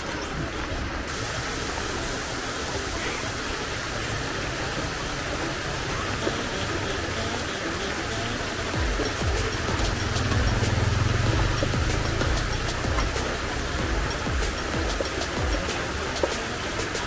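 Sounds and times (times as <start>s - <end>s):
oil sizzling in a wok: 1.1s - 17.0s.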